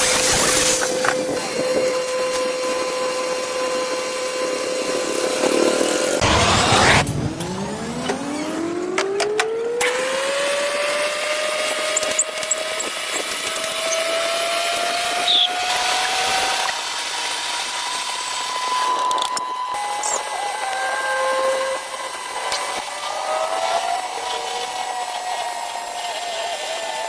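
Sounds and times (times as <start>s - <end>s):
power tool motor spinning up: 0.0s - 27.0s.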